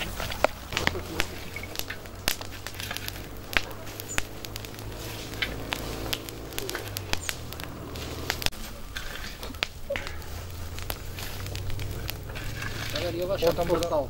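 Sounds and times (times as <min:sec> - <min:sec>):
embers crackling and popping: 0:00.0 - 0:14.0.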